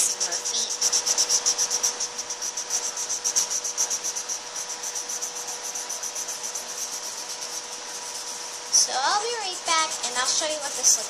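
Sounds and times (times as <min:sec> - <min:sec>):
marker scribbling on paper: 0:00.0 - 0:11.0.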